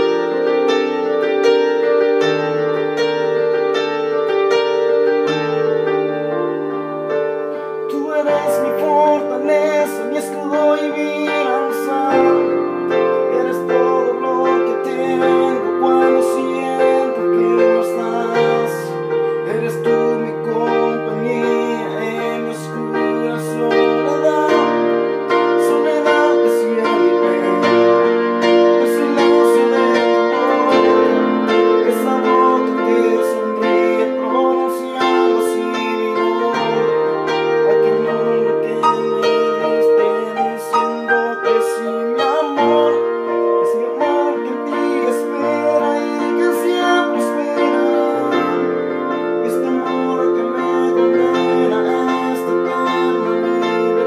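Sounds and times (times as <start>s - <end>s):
electronic keyboard chords: 0.0s - 54.0s.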